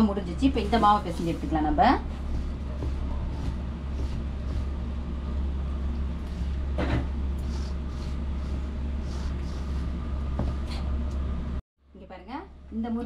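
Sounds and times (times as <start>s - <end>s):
hands kneading dough: 0.0s - 10.8s
steady low hum: 0.0s - 13.0s.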